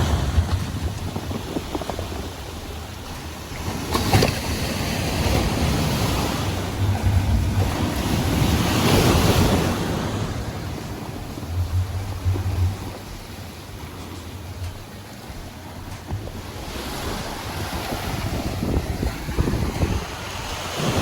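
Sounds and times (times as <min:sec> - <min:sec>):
ocean waves breaking: 0:00.0 - 0:21.0
wind buffeting microphone: 0:00.0 - 0:21.0.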